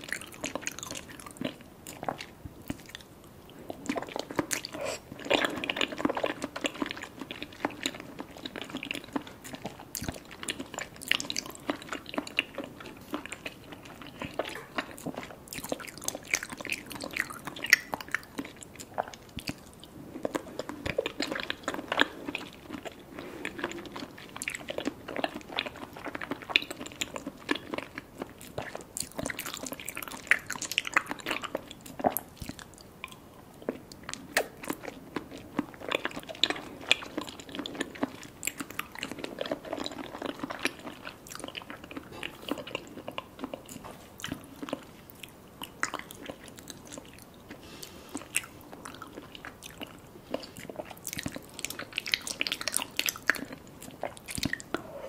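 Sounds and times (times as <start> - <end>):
wet squishy chewing: 0.0 - 54.9.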